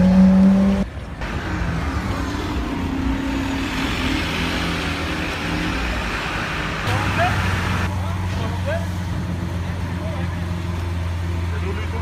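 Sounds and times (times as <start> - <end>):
sports car engine: 0.0 - 12.0
street noise: 0.0 - 12.0.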